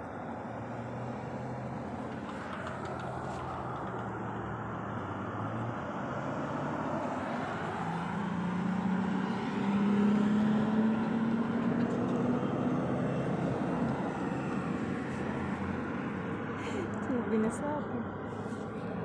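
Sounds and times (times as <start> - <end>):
engine hum rising in pitch: 0.1 - 19.0.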